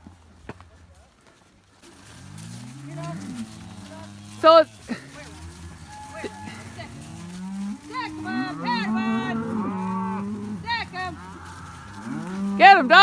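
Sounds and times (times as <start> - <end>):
cows mooing: 1.9 - 13.0.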